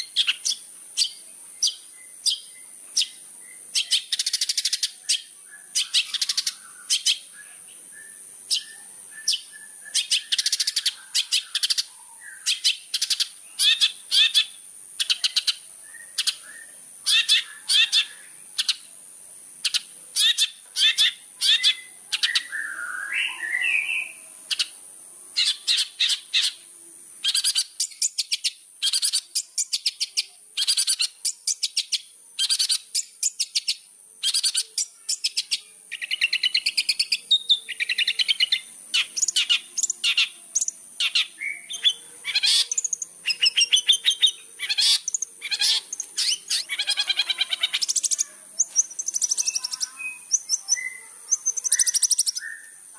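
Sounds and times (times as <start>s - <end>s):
shrike singing rapid chirps: 0.0s - 52.9s.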